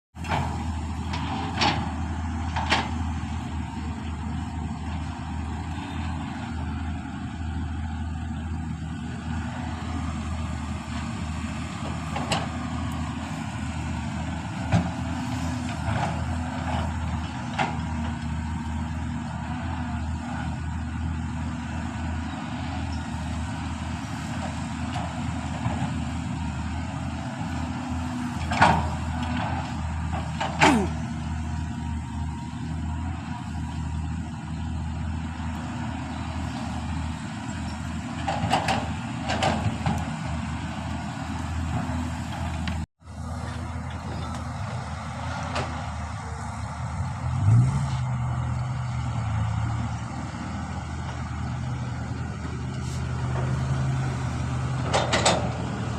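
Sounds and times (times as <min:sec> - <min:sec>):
heavy diesel engine running: 0:00.1 - 0:55.9.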